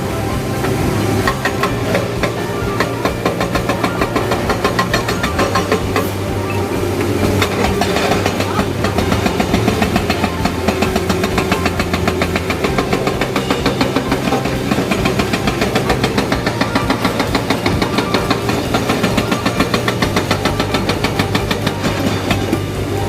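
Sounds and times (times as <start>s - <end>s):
excavator engine running: 0.0s - 23.0s
hydraulic rock breaker hammering: 0.0s - 23.0s.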